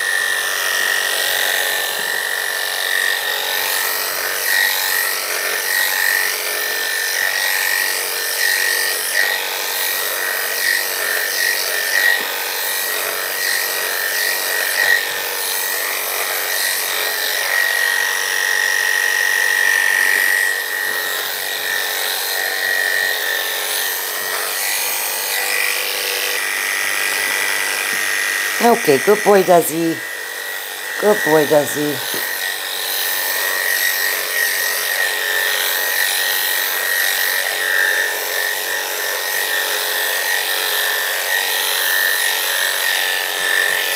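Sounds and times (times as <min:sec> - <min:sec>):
electric clippers whining: 0:00.0 - 0:43.9.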